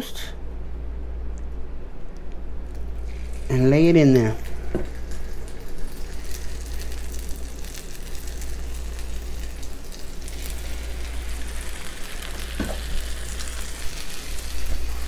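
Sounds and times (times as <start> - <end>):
bread sizzling in butter: 2.7 - 15.0.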